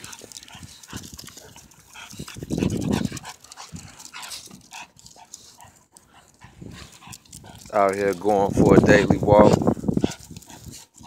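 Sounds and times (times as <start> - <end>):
puppies breathing and snuffling: 0.0 - 11.0.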